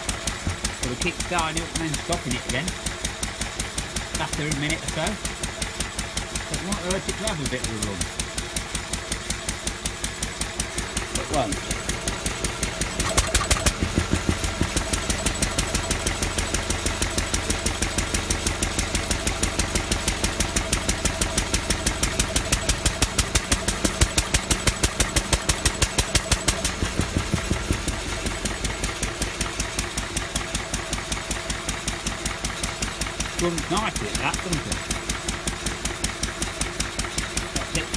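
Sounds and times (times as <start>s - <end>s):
stationary engine running: 0.0s - 37.9s.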